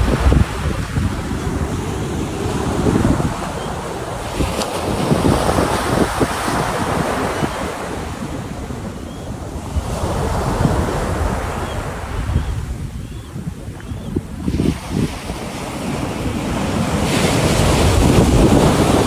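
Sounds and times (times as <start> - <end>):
ocean waves breaking on beach: 0.0 - 19.0
wind gusting on microphone: 0.0 - 19.0.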